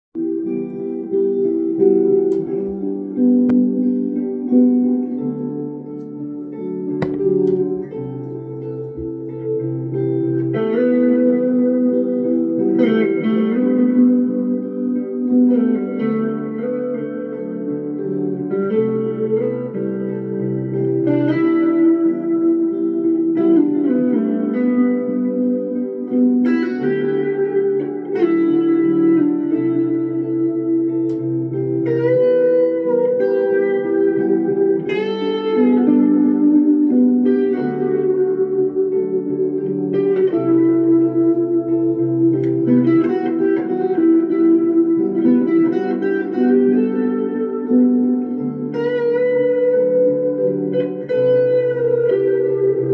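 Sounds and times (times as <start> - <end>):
clean electric guitar chords: 0.1 - 52.9.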